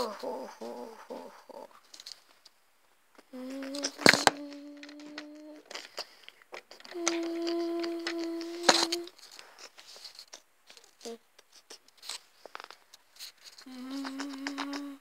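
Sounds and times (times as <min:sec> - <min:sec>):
person holding a sung note: 0:00.0 - 0:01.8, 0:03.2 - 0:12.2, 0:13.5 - 0:15.0
handling noise: 0:01.7 - 0:15.0.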